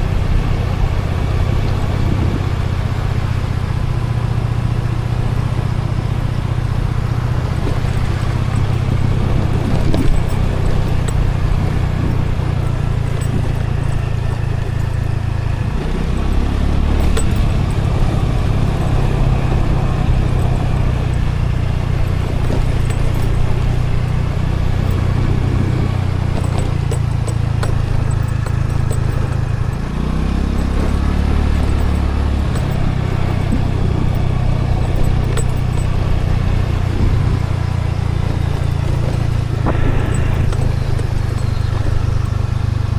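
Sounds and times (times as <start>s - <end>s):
road noise: 0.0s - 42.9s
scooter engine running: 0.0s - 42.9s.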